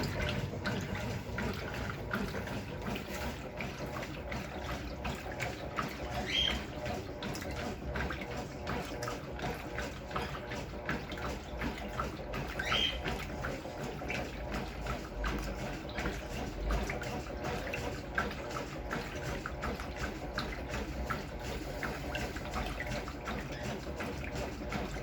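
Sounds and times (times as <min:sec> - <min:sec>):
washing machine running: 0:00.0 - 0:25.0
water splashing in drum: 0:00.0 - 0:25.0.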